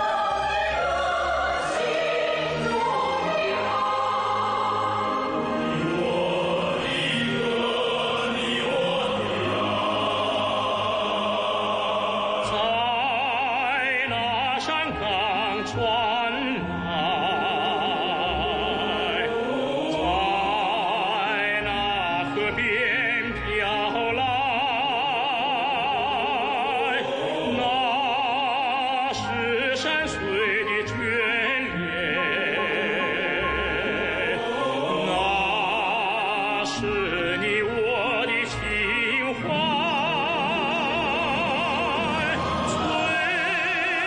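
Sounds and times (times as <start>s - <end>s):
operatic singing with vibrato: 0.0s - 44.0s.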